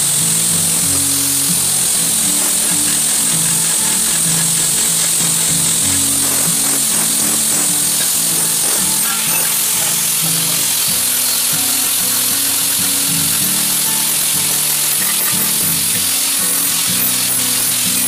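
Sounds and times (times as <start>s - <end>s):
angle grinder grinding metal: 0.0s - 18.0s.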